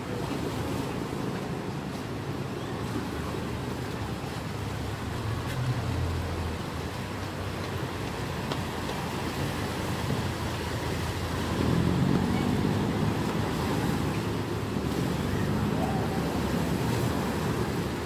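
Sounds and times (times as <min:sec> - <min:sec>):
boat diesel engine droning: 0:00.0 - 0:18.0
water noise: 0:00.0 - 0:18.0
wind: 0:00.0 - 0:18.0.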